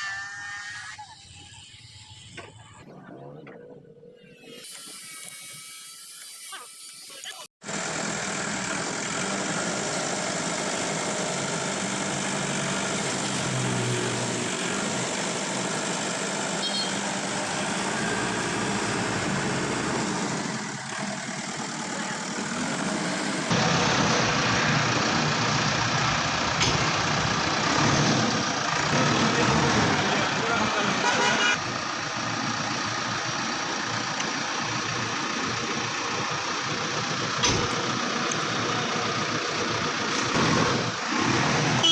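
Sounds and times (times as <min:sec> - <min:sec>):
heavy machinery diesel engines: 0:07.6 - 0:41.9.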